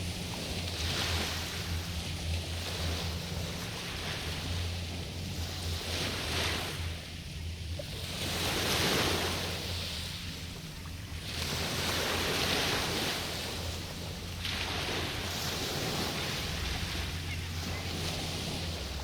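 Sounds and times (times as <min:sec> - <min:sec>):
steady low rumble: 0:00.0 - 0:19.0
waves washing onto shore: 0:00.0 - 0:19.0.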